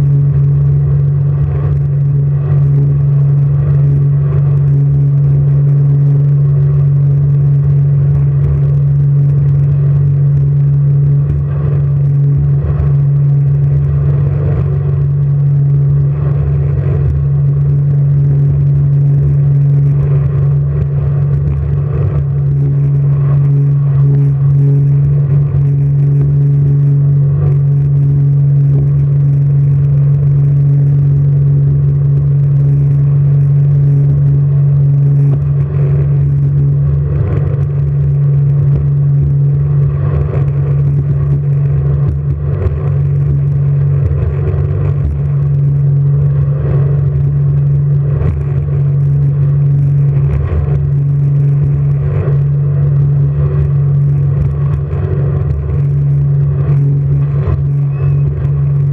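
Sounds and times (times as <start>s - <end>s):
boat engine running: 0.0s - 58.9s.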